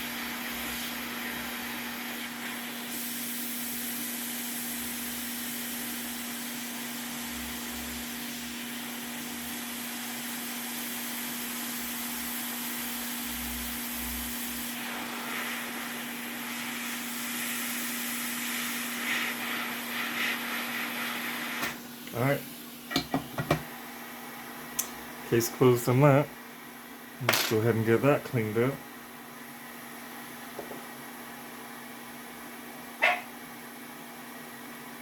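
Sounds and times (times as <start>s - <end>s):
hot air station hissing: 0.0s - 32.2s.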